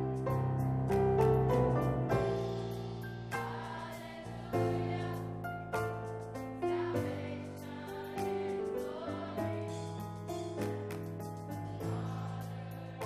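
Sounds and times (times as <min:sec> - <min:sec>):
choir singing gospel: 0:00.0 - 0:13.0
instrumental accompaniment: 0:00.0 - 0:13.0.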